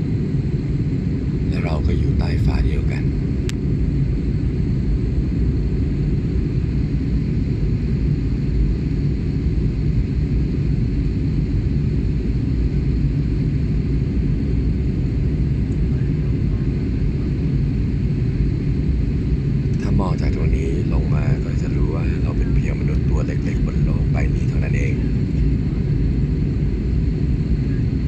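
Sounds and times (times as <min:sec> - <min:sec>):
airliner cabin engine rumble: 0:00.0 - 0:28.0.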